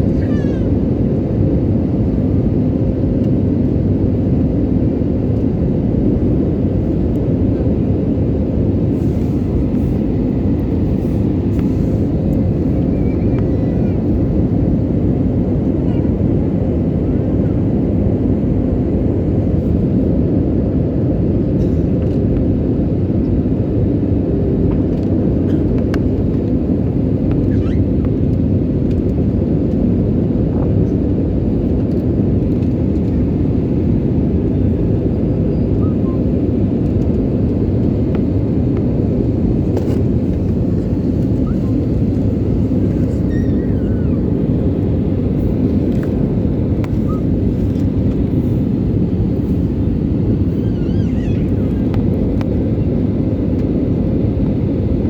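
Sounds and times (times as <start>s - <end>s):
airliner engine drone: 0.0s - 55.0s.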